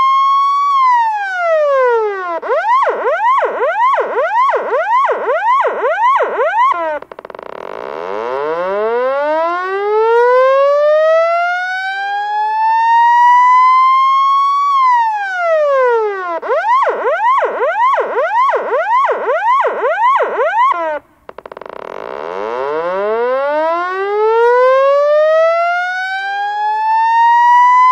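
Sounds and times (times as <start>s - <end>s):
police siren wailing and yelping: 0.0s - 7.1s, 8.2s - 21.1s, 22.4s - 27.9s.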